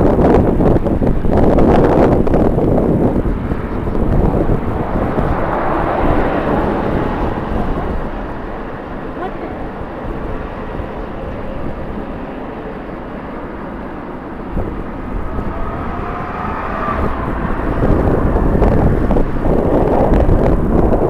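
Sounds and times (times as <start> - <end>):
jet engines running: 0.0 - 21.0
wind buffeting microphone: 0.0 - 21.0.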